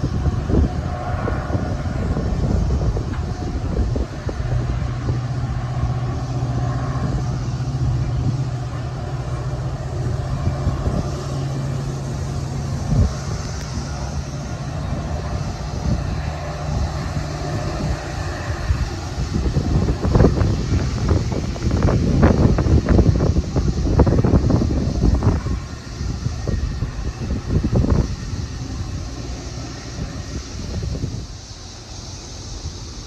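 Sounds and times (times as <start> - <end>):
low droning hum: 0.0 - 33.0
train rumbling past: 0.0 - 33.0.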